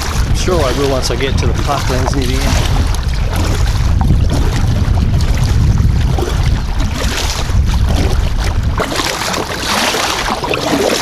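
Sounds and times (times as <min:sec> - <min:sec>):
paddle splashing in water: 0:00.0 - 0:11.0
wind rumbling on microphone: 0:00.0 - 0:11.0.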